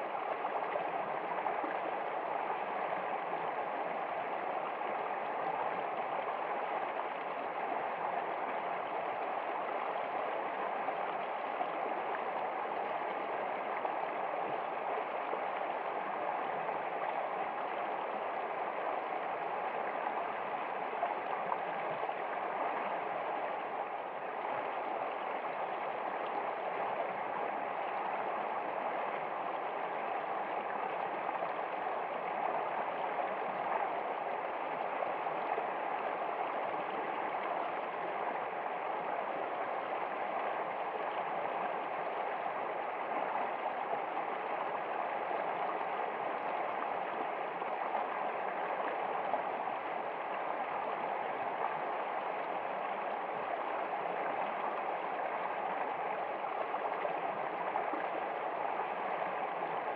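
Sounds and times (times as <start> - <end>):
stream babbling and gurgling: 0.0 - 59.9.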